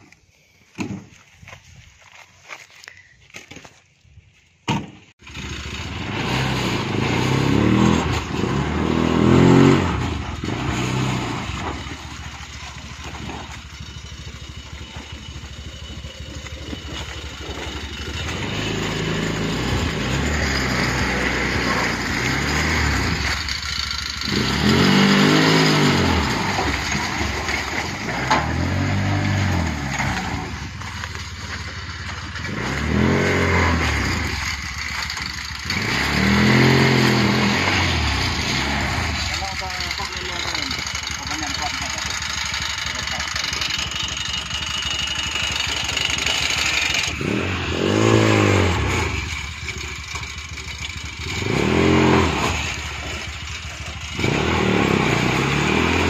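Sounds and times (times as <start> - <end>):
motorbike engine revving: 5.2 - 56.0.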